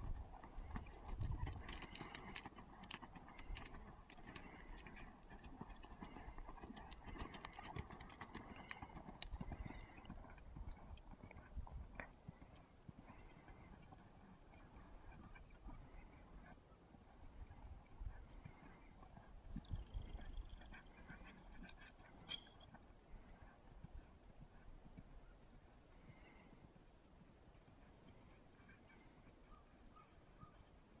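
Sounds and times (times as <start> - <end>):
horse hoofbeats on dirt: 0.0 - 25.1.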